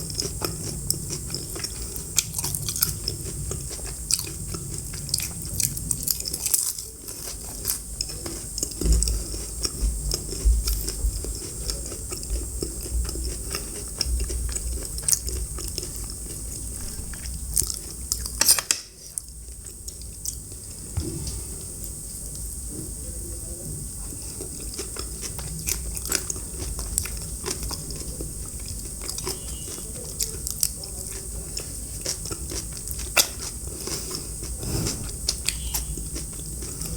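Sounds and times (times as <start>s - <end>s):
biting and chewing food: 0.0s - 21.2s, 24.1s - 36.9s.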